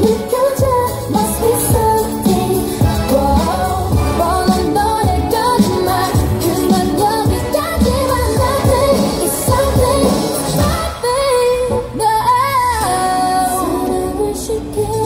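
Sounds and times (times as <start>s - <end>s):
upbeat pop song: 0.0s - 15.0s
woman singing: 0.0s - 15.0s.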